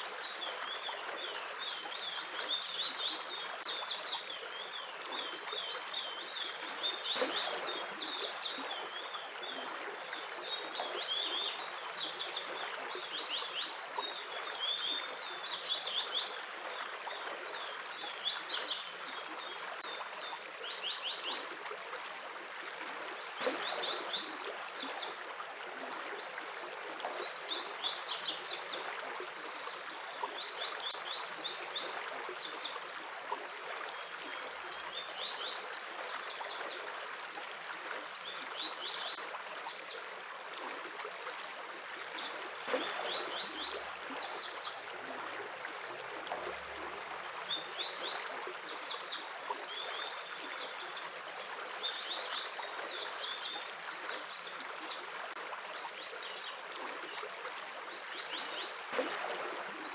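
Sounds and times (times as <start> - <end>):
water running like a stream: 0.0 - 59.9.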